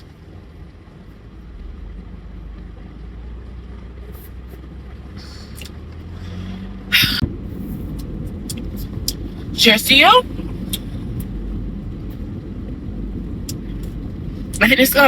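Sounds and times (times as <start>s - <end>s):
car engine rumble from inside: 0.0s - 15.0s.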